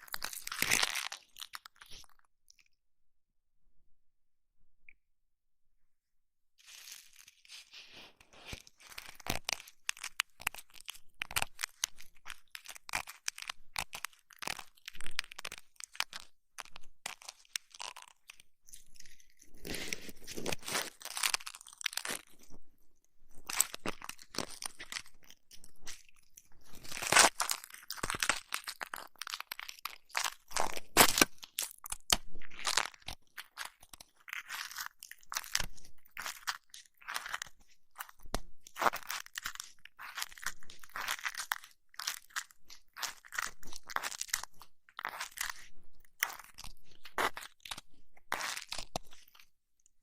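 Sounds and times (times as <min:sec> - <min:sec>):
crunchy crackling and scratching: 0:00.0 - 0:02.3, 0:06.6 - 0:22.6, 0:23.3 - 0:49.5.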